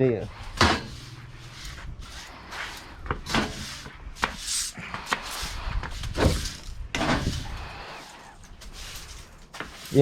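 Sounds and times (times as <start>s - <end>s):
broom sweeping: 0.3s - 10.0s.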